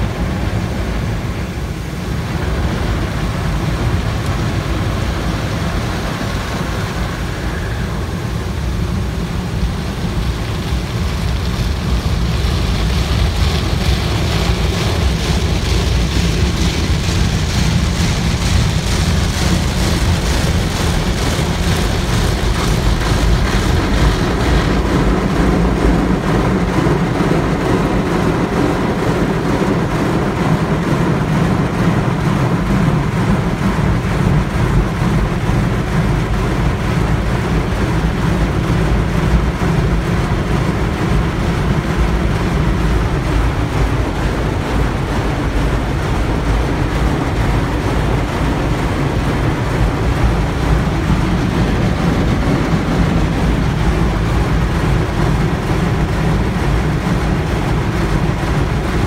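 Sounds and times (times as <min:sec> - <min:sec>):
deep rumble: 0:00.0 - 0:59.0
water jets spraying on car: 0:00.0 - 0:59.0.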